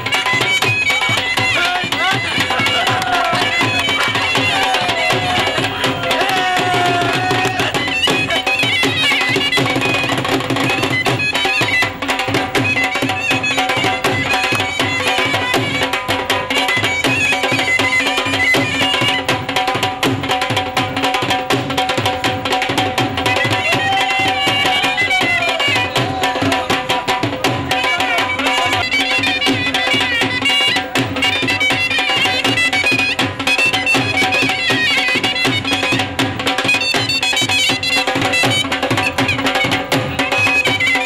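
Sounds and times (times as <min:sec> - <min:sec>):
drum beaten in fast rhythm: 0:00.0 - 0:41.0
reed wind instrument melody: 0:00.0 - 0:41.0.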